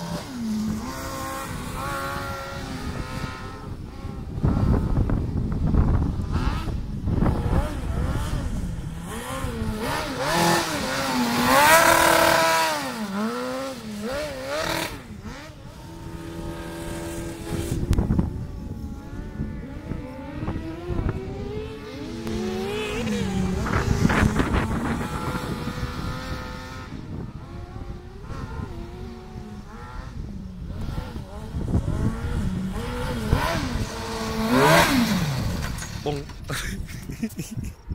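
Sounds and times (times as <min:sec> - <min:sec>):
racing engine revving: 0:00.0 - 0:36.5.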